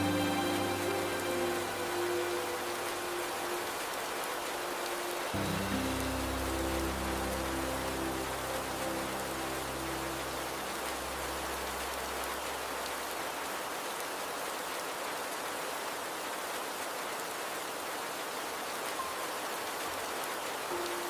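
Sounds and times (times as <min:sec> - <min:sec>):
river flowing: 0:00.0 - 0:21.0
soft rain: 0:00.0 - 0:21.0.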